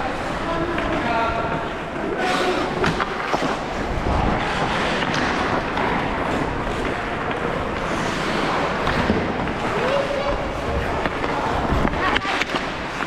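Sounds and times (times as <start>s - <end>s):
echoing ice hockey game: 0.0s - 13.0s.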